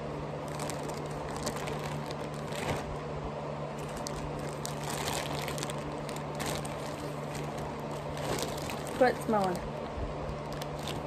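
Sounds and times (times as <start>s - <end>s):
plastic bag crinkling: 0.4s - 3.0s, 3.7s - 11.0s.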